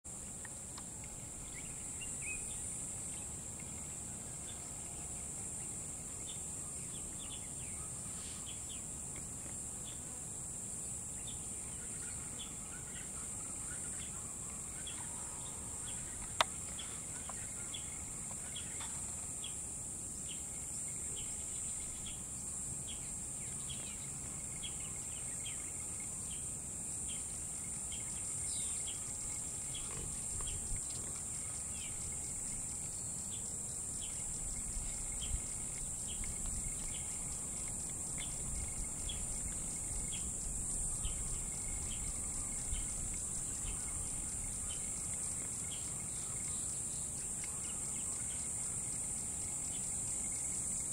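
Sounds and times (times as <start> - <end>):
high-pitched insect drone: 9.7 - 50.9.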